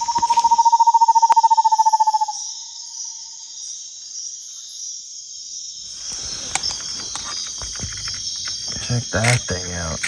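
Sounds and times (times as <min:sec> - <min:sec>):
crickets and katydids droning: 0:00.0 - 0:10.0
rapid pulsed insect trill: 0:00.0 - 0:10.0.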